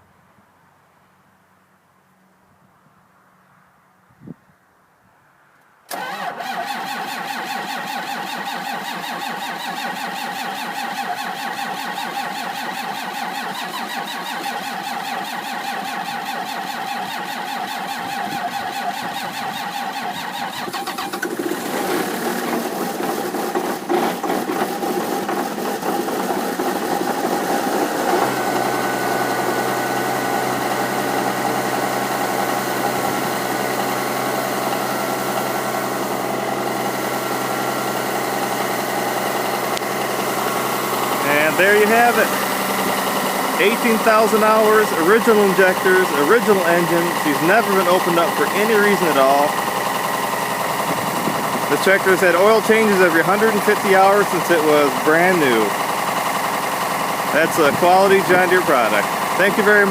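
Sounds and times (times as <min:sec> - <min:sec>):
diesel tractor engine running: 0:05.9 - 0:59.9
starter motor cranking: 0:05.9 - 0:59.9.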